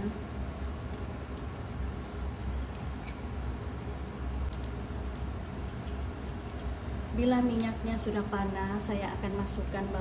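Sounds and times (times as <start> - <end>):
stove rumbling: 0.0 - 10.0.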